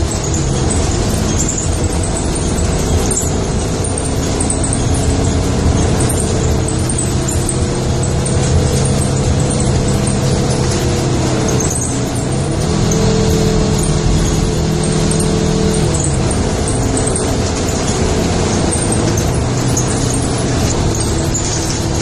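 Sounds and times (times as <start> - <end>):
vehicle engine rumble from inside: 0.0 - 22.0.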